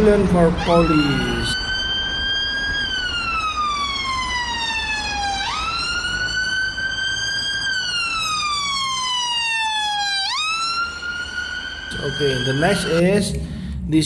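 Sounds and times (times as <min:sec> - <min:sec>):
ambulance siren wailing: 0:00.0 - 0:13.7
low traffic rumble: 0:00.0 - 0:14.0.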